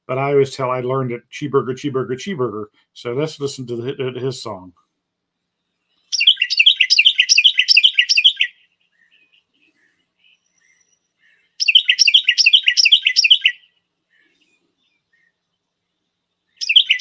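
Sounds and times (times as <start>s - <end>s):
wren song: 3.0s - 17.0s.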